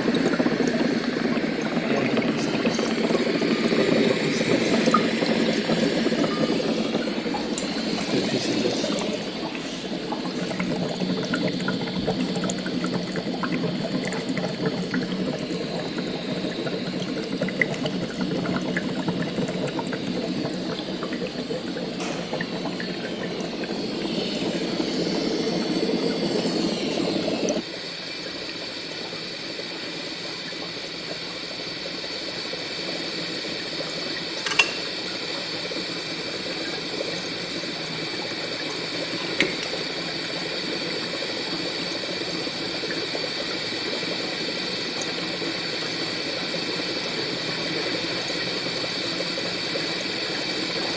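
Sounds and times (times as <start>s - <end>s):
bubbling liquid churning: 0.0s - 50.9s.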